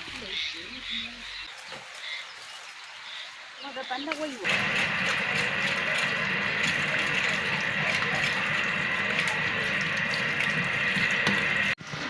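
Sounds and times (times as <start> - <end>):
running water rushing: 0.0 - 11.8.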